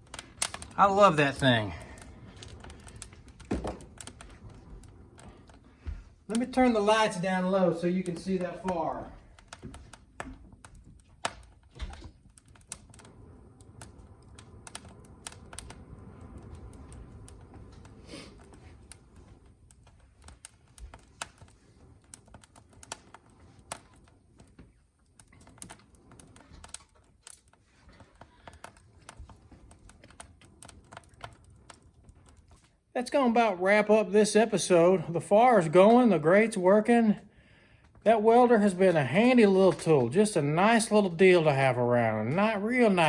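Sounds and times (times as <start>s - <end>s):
fire crackling and popping: 0.0s - 43.0s
low rush of flame: 0.0s - 43.0s.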